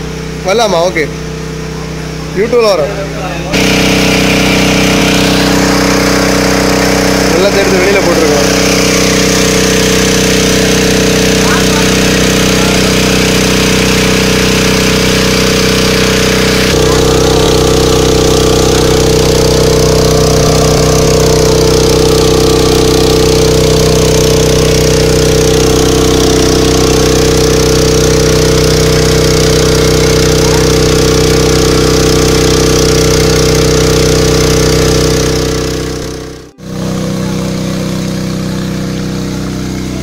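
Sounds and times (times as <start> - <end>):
motor water pump running: 0.0 - 40.0.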